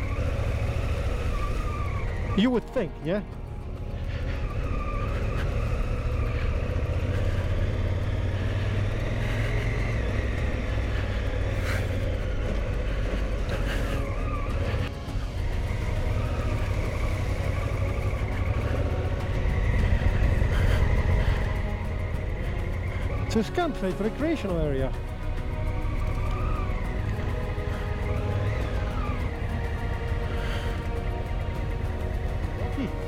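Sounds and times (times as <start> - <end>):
motorcycle engine running: 0.0 - 33.0
road and wind rumble: 0.0 - 33.0.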